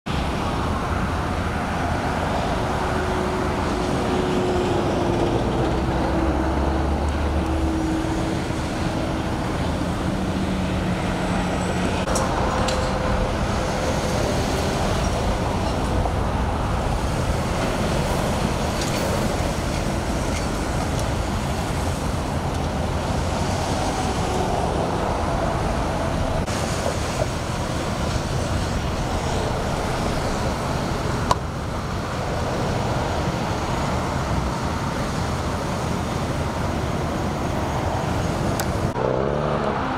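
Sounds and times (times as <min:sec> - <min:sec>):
freeway traffic passing: 0:00.1 - 0:39.9.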